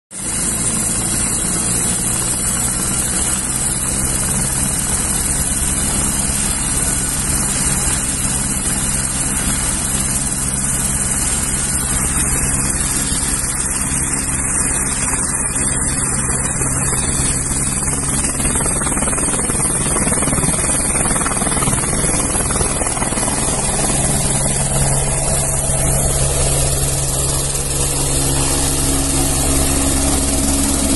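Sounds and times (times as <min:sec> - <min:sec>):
helicopter engine and rotor running: 0:00.1 - 0:30.9.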